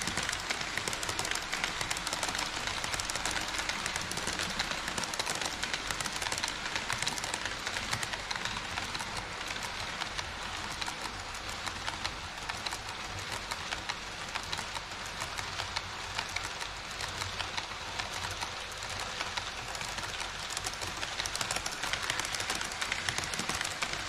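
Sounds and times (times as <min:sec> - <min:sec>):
model train wheels clicking: 0:00.0 - 0:24.0.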